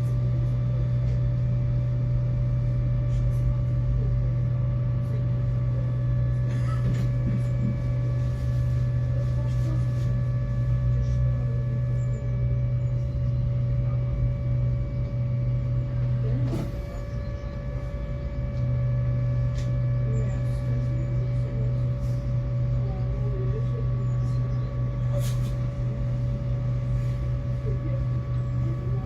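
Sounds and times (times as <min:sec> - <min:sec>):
tram electrical hum: 0:00.0 - 0:29.0.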